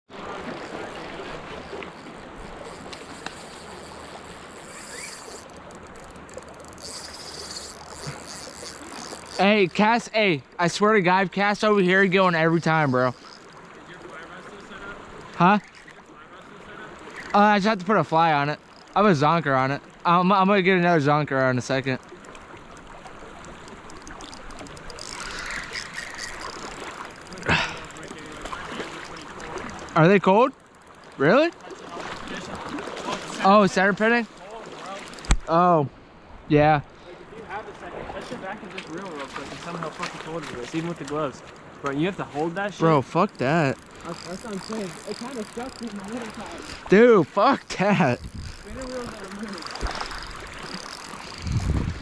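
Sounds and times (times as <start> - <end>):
river water rushing: 0.1 - 21.2, 21.8 - 52.0
faint clicks: 1.2 - 35.5, 36.8 - 47.0, 47.7 - 52.0
small light ticks: 1.6 - 10.8, 11.6 - 20.7, 21.4 - 35.5, 36.8 - 46.9, 48.0 - 52.0.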